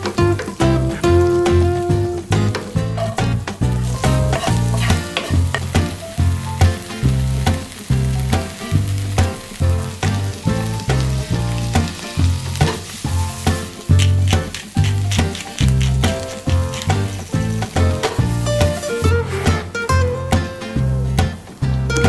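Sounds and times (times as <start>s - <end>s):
background music with a beat: 0.0s - 22.0s
onions sizzling in a frying pan: 0.0s - 22.0s.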